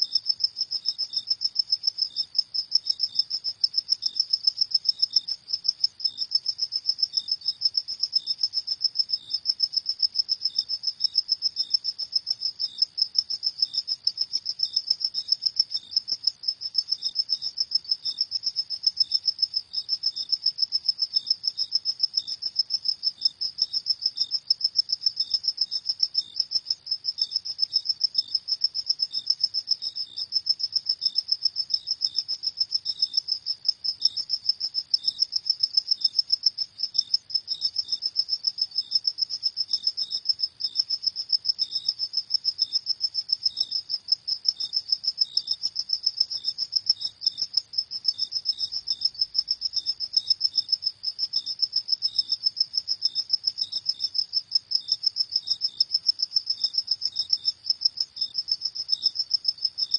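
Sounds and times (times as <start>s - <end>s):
crickets chirping trill: 0.0s - 59.9s.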